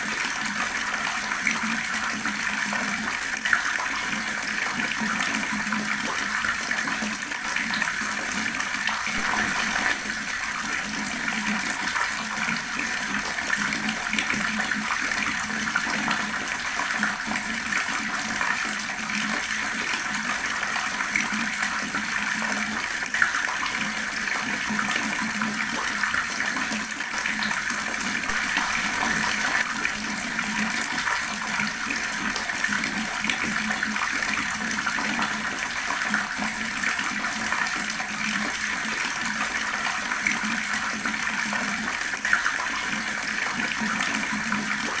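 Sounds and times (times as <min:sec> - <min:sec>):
water tap running and gurgling: 0:00.0 - 0:45.0.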